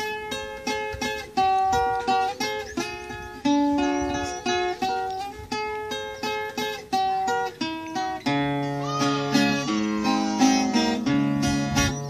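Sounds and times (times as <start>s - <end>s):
plucked guitar-like strings: 0.0s - 12.0s.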